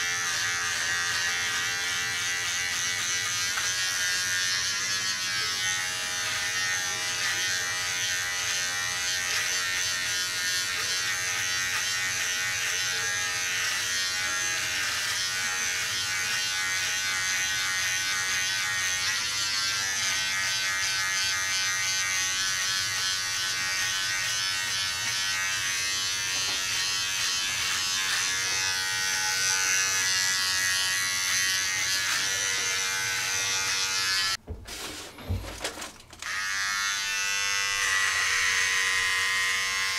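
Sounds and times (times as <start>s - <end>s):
hair trimmer buzzing: 0.0s - 34.4s, 36.2s - 39.9s.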